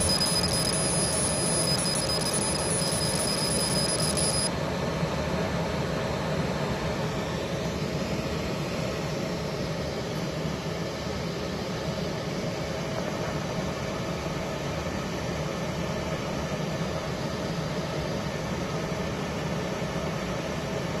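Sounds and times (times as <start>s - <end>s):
machine hum with rushing air: 0.0s - 21.0s.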